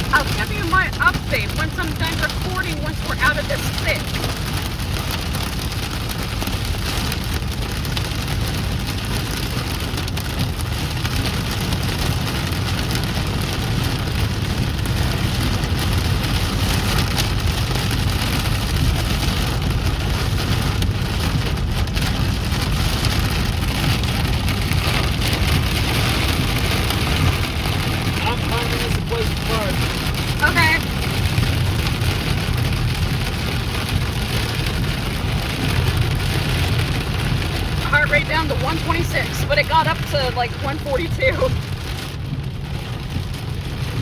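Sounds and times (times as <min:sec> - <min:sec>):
car driving rumble: 0:00.0 - 0:44.0
hail and rain on car roof: 0:00.0 - 0:44.0.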